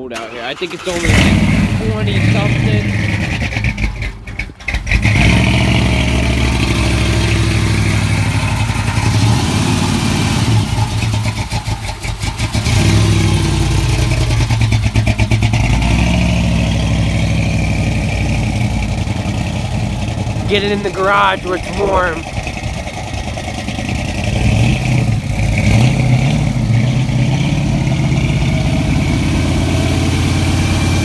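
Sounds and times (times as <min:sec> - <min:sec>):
car engine running: 0:00.1 - 0:31.0.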